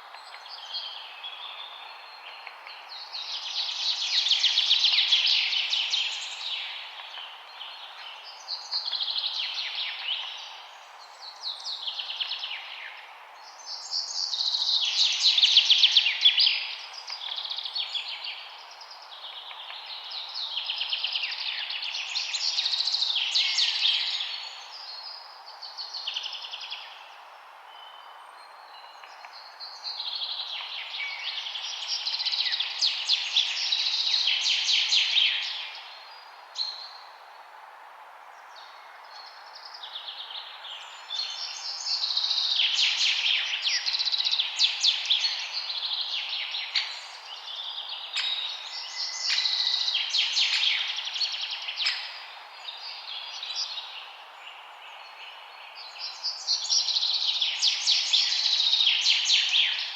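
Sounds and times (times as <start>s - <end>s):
songbirds chirping and trilling: 0.0s - 37.5s, 38.3s - 59.9s
steady background hiss: 0.0s - 59.9s.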